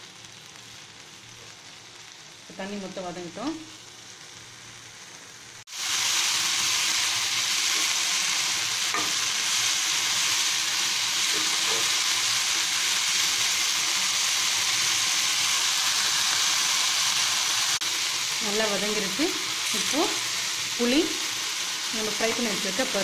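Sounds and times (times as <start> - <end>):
leaves sizzling in oil: 0.0 - 23.0.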